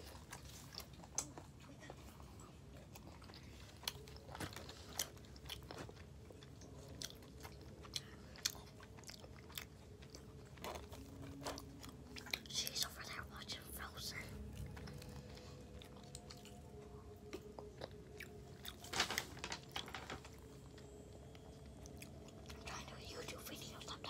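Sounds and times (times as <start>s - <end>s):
child chewing food: 0.0s - 24.0s.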